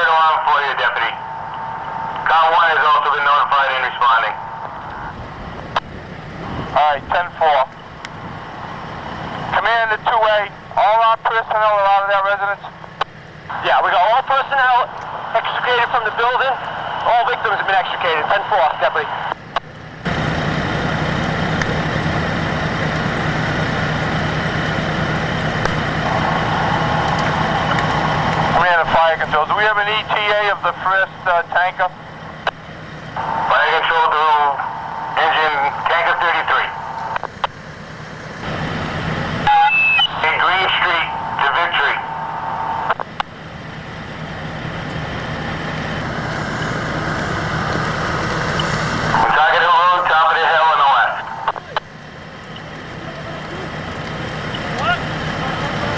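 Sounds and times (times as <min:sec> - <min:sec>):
dense noise: 0:00.0 - 0:22.8, 0:24.0 - 0:55.9
diesel engine running: 0:00.0 - 0:55.9.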